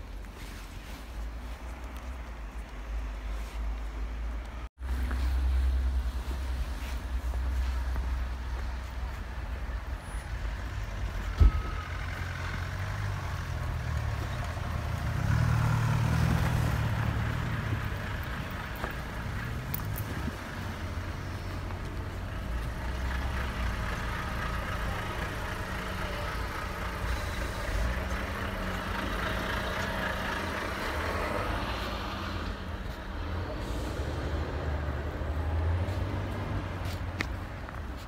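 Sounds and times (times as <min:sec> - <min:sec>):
traffic rumbling: 0:00.0 - 0:38.0.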